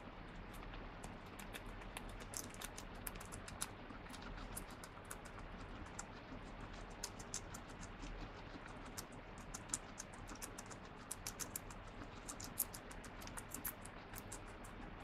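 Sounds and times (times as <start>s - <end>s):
guinea pig chewing lettuce: 0.0s - 15.0s.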